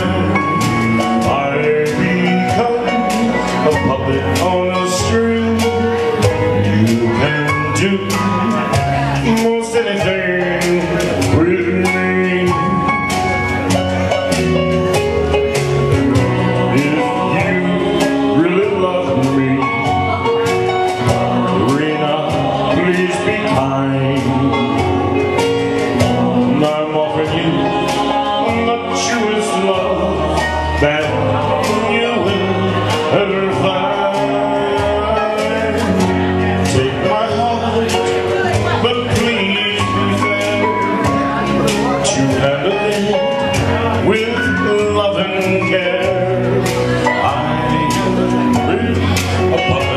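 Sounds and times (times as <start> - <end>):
man singing into a microphone: 0.0 - 49.9
music backing track: 0.0 - 49.9.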